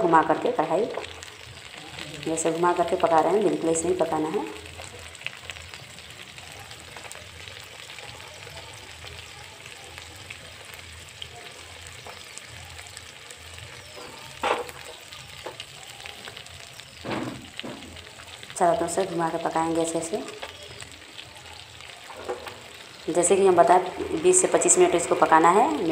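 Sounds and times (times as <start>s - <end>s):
fish sizzling in hot oil: 0.0s - 25.9s.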